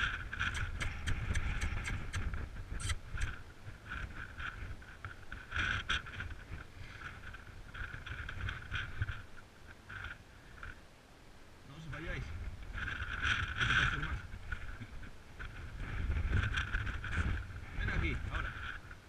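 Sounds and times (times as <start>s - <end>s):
wind buffeting microphone: 0.0s - 10.7s, 11.9s - 19.0s.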